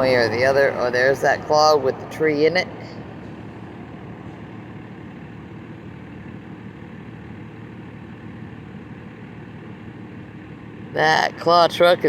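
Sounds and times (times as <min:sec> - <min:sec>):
distant heavy engine rumble: 0:00.0 - 0:12.0.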